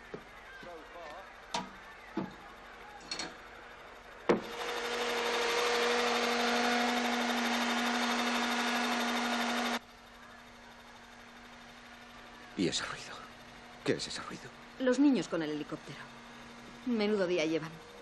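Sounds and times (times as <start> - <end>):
model helicopter motor and rotors: 3.6 - 18.0.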